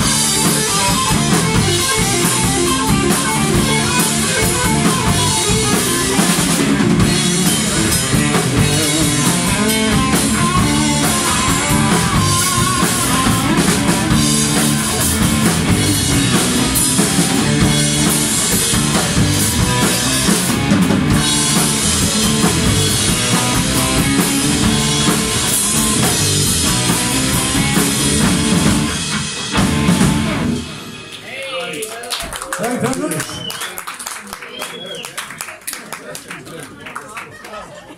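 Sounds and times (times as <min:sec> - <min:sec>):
live rock band playing: 0:00.0 - 0:31.3.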